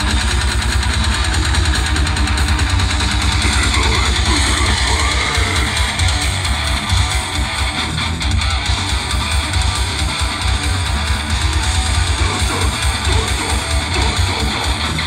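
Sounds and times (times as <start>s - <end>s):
bass guitar: 0.0s - 15.0s
distorted electric guitar: 0.0s - 15.0s
drums: 0.0s - 15.0s.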